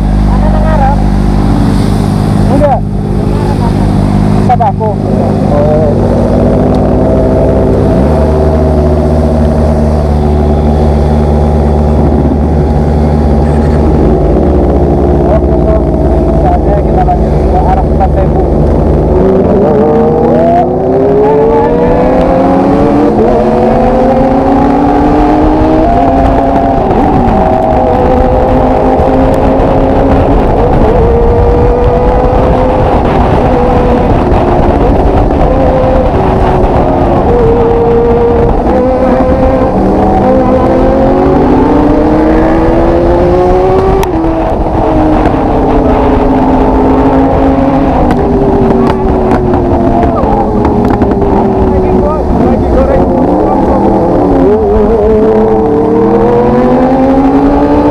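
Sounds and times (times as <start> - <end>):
motorcycle engine under throttle: 0.0 - 57.9
steady rush of noise: 0.0 - 57.9.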